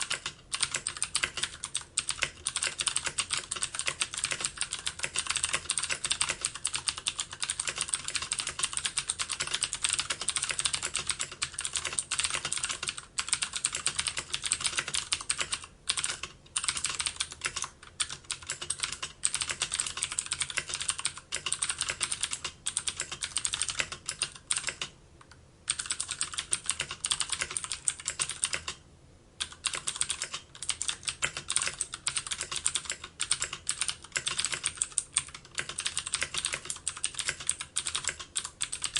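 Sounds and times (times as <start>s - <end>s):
fast typing on keyboard: 0.0s - 24.9s, 25.7s - 28.8s, 29.4s - 38.9s.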